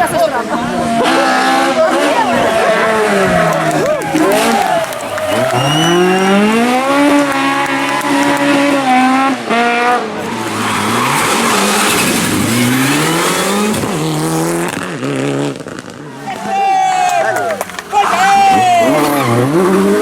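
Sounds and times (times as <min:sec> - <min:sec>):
rally car engine revving: 0:00.0 - 0:20.0
tyres squealing: 0:00.2 - 0:08.7, 0:10.2 - 0:14.1, 0:16.2 - 0:20.0.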